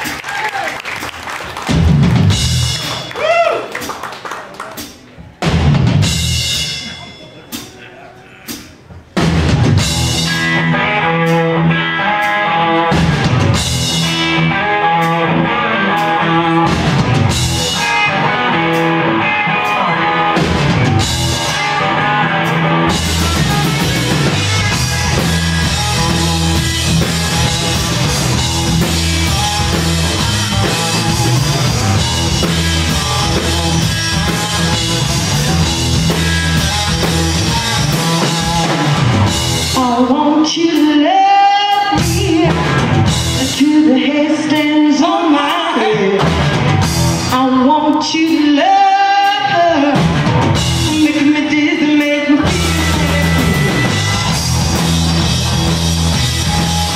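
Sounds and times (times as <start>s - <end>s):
bass guitar: 0.0s - 3.6s, 5.4s - 6.8s, 8.5s - 56.9s
drum kit: 0.0s - 56.9s
electric guitars: 9.2s - 56.9s.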